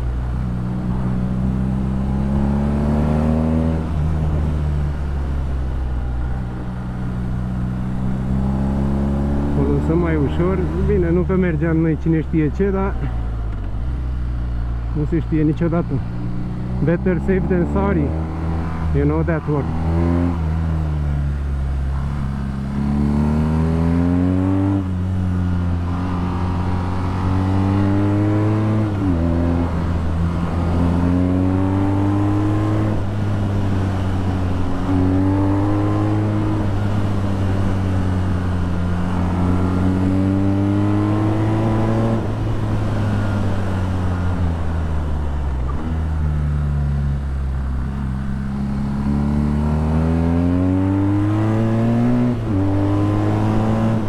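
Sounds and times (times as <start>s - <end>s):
motorcycle engine revving: 0.0s - 5.6s, 6.2s - 12.0s, 12.8s - 54.0s.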